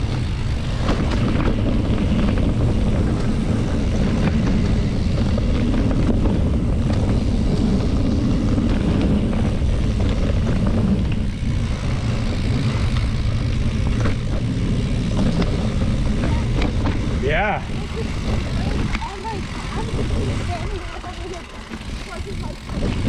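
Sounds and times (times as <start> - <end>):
engine low rumble: 0.0 - 23.0
wind noise on microphone: 0.0 - 23.0.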